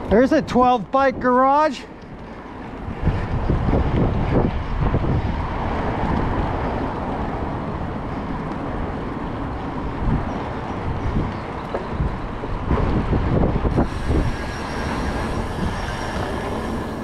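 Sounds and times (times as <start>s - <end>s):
heavy freeway traffic: 0.0s - 17.0s
wind buffeting microphone: 0.0s - 17.0s.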